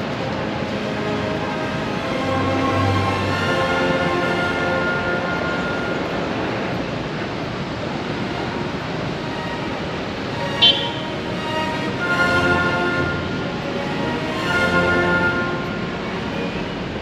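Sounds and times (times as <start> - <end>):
background music: 0.0 - 6.9, 8.9 - 17.0
street traffic noise: 0.0 - 17.0.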